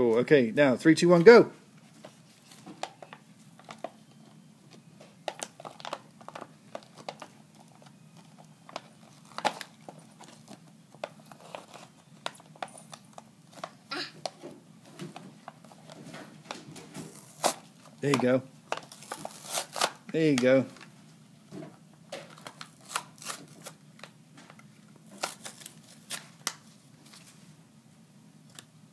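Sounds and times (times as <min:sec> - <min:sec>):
plastic and cardboard crinkling: 0:01.9 - 0:21.0, 0:22.1 - 0:27.4.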